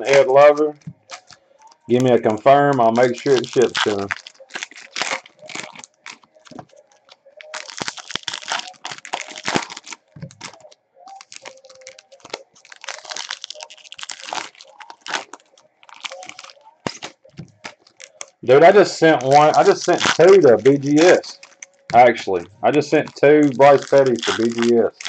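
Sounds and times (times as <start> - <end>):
foil wrappers tearing and crinkling: 0.0 - 25.0.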